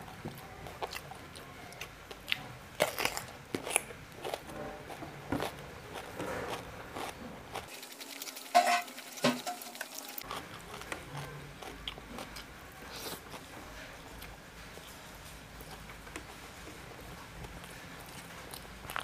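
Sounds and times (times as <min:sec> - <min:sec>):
chewing cucumber: 0:00.0 - 0:07.7, 0:10.2 - 0:16.4, 0:17.4 - 0:19.0.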